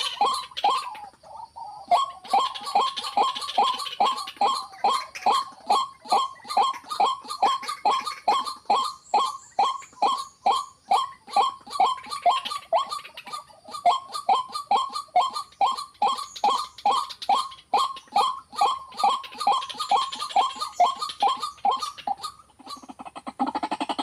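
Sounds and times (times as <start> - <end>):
bird calling: 0.0 - 24.0.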